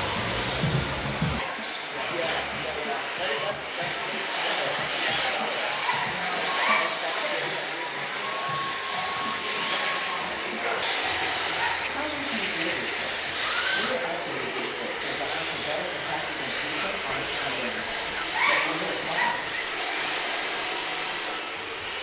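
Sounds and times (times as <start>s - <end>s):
small electric motors whirring: 0.0s - 22.0s.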